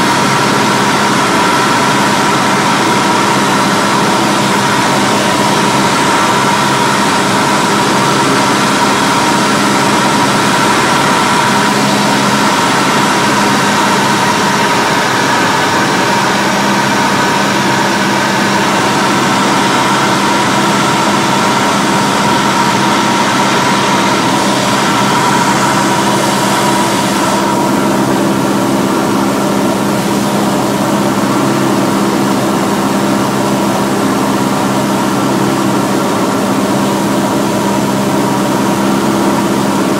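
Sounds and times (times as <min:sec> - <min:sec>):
propeller plane engine drone: 0:00.0 - 0:39.9
rushing wind: 0:00.0 - 0:39.9.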